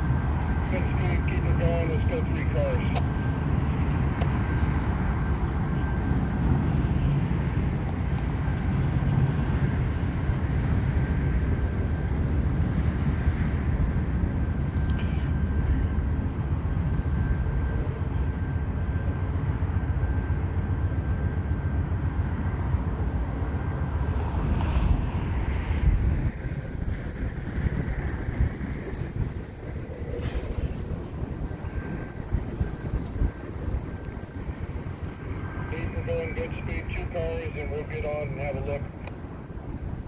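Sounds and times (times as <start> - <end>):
train rumbling over bridge: 0.0 - 40.0.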